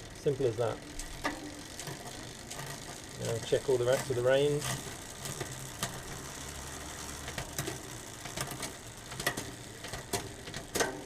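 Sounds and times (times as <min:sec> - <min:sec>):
bicycle chain running: 0:00.0 - 0:11.0.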